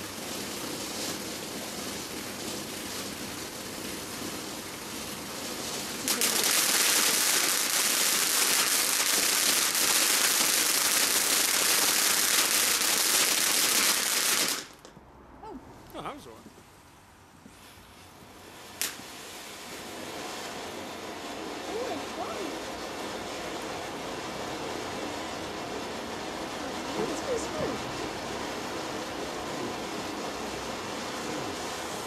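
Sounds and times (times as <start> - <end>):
firework fountain hissing: 0.0 - 14.9, 16.1 - 32.0.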